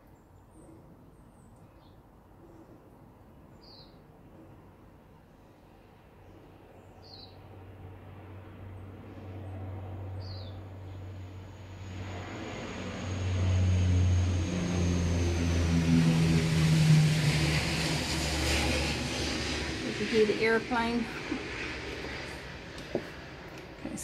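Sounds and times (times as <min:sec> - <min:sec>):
airplane flying past: 0:04.3 - 0:24.0.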